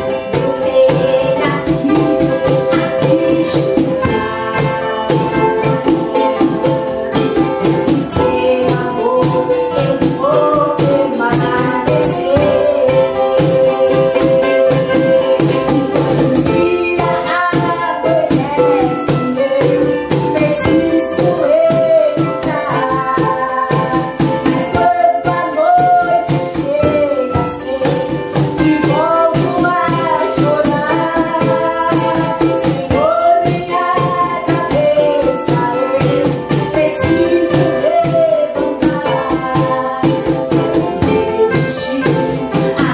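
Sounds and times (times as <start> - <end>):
acoustic guitar strumming: 0.0 - 42.9
cajon slapped beat: 0.0 - 42.9
ukulele: 0.0 - 42.9
woman singing: 0.0 - 42.9.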